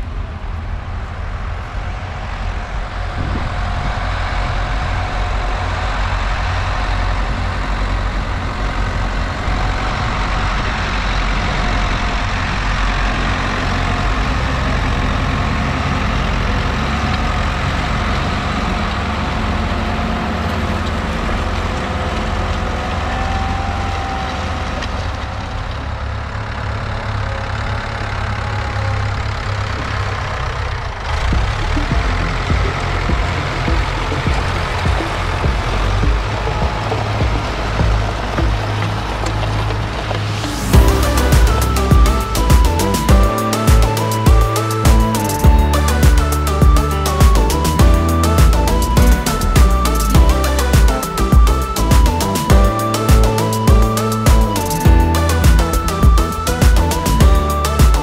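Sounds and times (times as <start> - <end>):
tractor diesel engine rumbling: 0.0 - 58.0.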